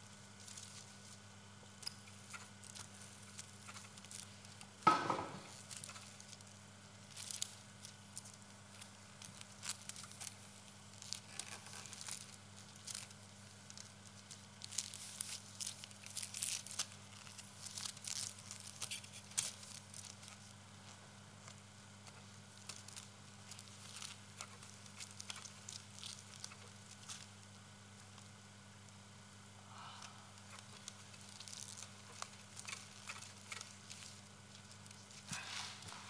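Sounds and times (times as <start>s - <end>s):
low electrical hum: 0.0s - 36.0s
plastic strip crinkling: 1.8s - 20.6s, 21.4s - 28.3s, 30.4s - 36.0s.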